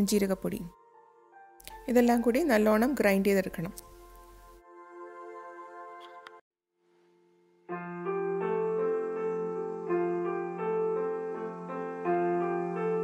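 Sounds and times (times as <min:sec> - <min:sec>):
keyboard music: 0:00.7 - 0:02.9, 0:03.6 - 0:06.4, 0:07.4 - 0:13.0.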